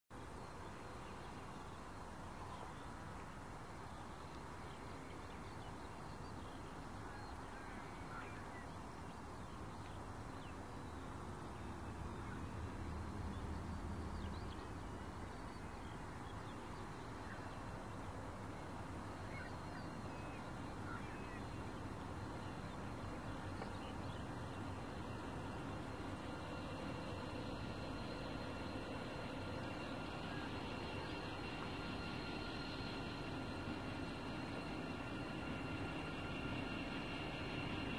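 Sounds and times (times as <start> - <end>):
distant diesel locomotives rumbling: 0.2 - 37.9.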